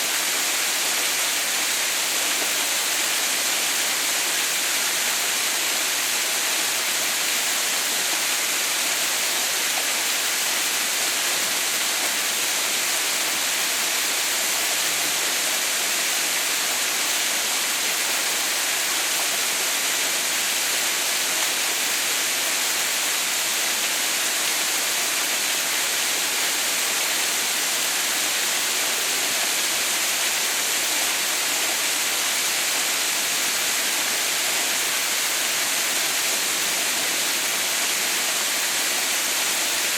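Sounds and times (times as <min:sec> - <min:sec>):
water rushing with bright hiss: 0:00.0 - 0:39.9.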